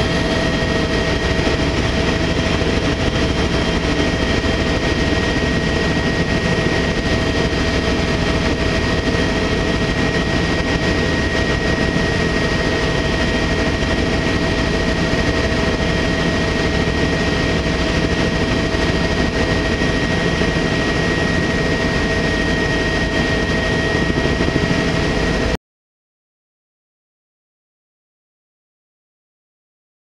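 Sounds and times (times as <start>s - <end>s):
helicopter engine and rotor: 0.0s - 25.6s.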